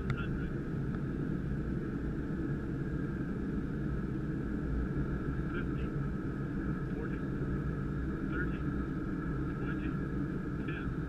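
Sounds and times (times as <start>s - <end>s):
faint high hum: 0.0s - 11.0s
jet cockpit airflow rumble: 0.0s - 11.0s.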